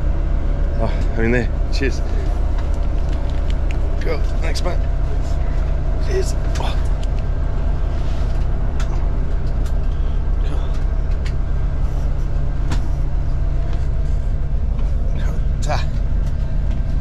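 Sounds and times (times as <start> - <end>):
air conditioning running: 0.0 - 17.0
bus engine idling: 0.0 - 17.0.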